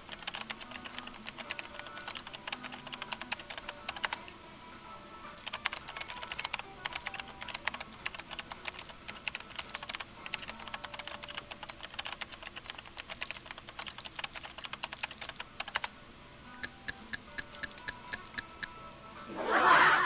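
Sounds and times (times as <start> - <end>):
rapid light clicks and taps: 0.0 - 4.2, 5.4 - 15.9, 16.6 - 18.8.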